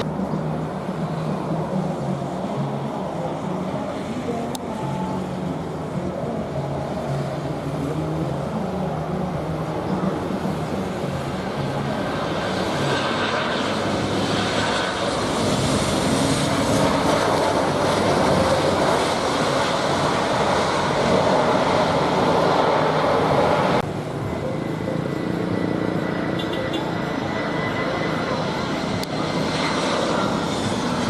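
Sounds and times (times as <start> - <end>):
faint high engine whine: 0.0 - 31.0
jet engine rushing noise: 0.0 - 31.0.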